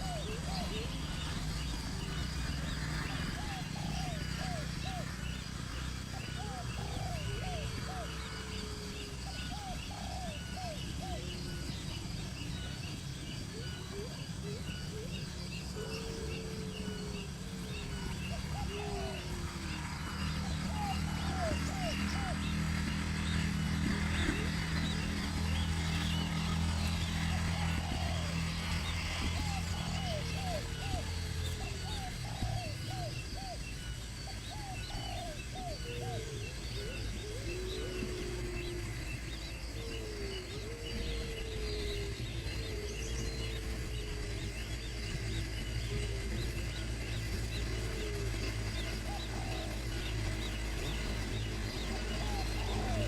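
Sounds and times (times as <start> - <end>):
birds chirping: 0.0 - 53.0
drawn-out bird calls: 0.0 - 53.0
steady low rumble: 0.0 - 53.0.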